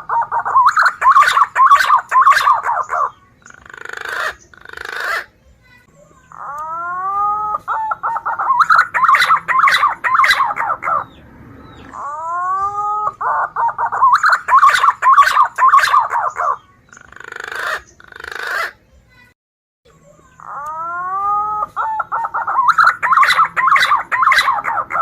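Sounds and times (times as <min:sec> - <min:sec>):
pigeon call with warbled notes: 0:00.0 - 0:05.3, 0:06.3 - 0:11.1, 0:11.9 - 0:18.8, 0:20.4 - 0:25.0.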